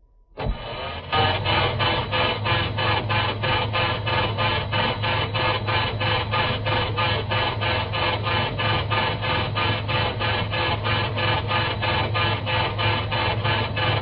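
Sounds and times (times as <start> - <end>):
engine cranking without starting: 0.4 - 14.0.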